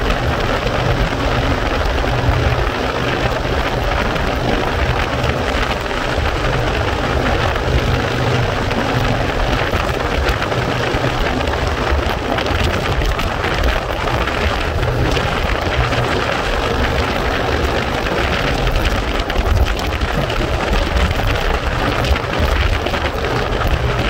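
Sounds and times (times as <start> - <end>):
road and engine rumble: 0.0 - 24.0
wind buffeting microphone: 0.0 - 24.0.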